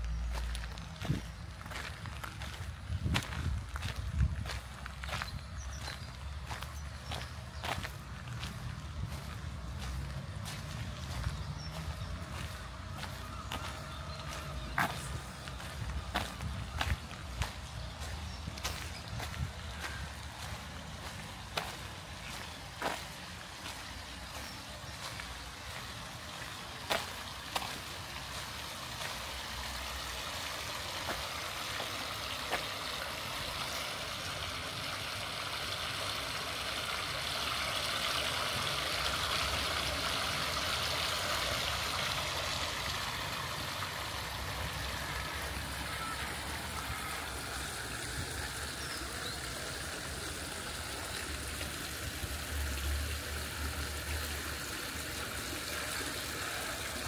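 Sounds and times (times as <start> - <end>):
fountain splashing: 0.0 - 57.0.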